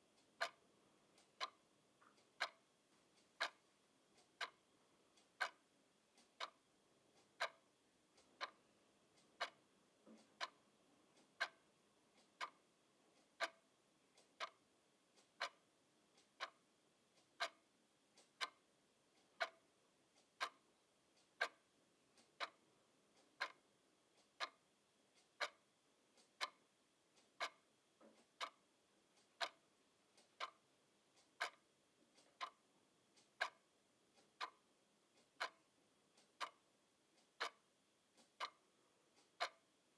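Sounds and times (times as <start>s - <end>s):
clock ticking: 0.2s - 6.6s, 7.2s - 8.6s, 9.2s - 12.6s, 13.2s - 14.6s, 15.2s - 16.6s, 17.2s - 21.6s, 22.2s - 23.6s, 24.2s - 39.8s.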